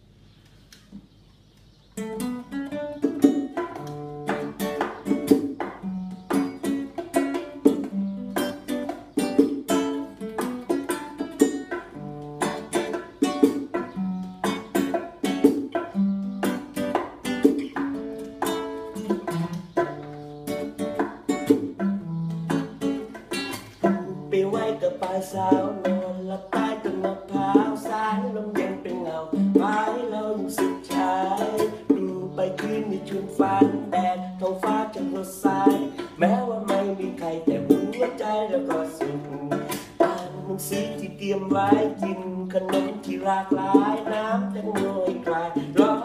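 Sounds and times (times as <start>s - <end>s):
classical guitar strumming chords: 0.9s - 46.0s
bongo drums: 3.0s - 46.0s.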